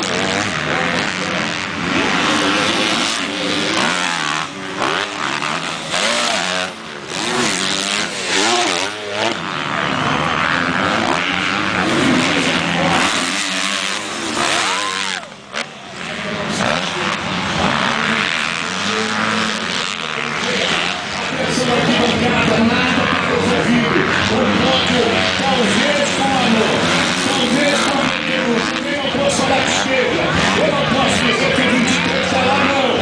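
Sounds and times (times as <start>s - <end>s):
motocross bikes racing: 0.0s - 33.0s.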